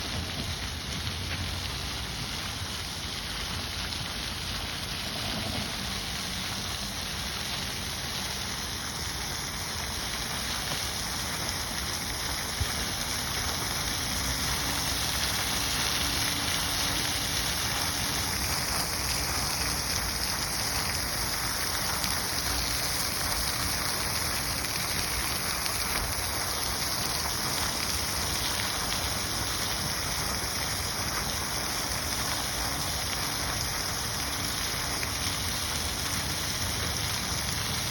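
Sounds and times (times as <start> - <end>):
fountain water splashing: 0.0 - 37.9.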